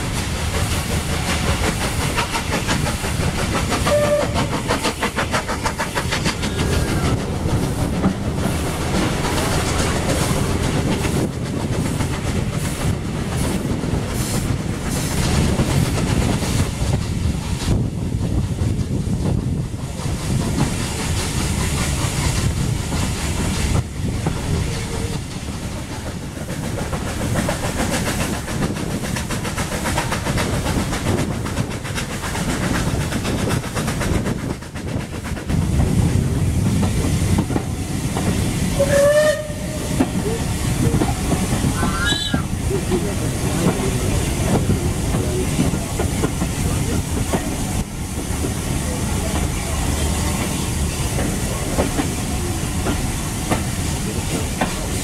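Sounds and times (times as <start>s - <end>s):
steam locomotive working: 0.0s - 55.0s
train wheels clattering over rails: 0.0s - 55.0s.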